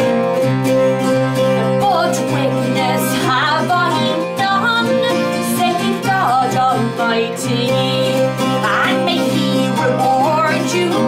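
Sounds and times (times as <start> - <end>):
acoustic guitars playing folk song: 0.0 - 11.0
woman singing: 1.4 - 11.0.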